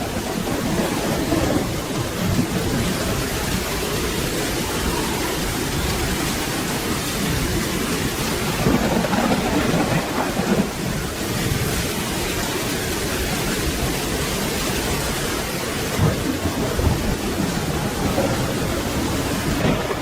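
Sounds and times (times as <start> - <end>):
low rolling thunder: 0.0 - 20.0
rain falling: 0.0 - 20.0.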